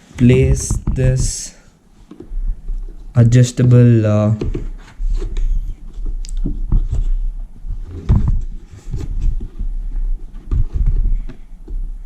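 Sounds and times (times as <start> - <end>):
low thumps and rubbing: 0.0 - 12.0.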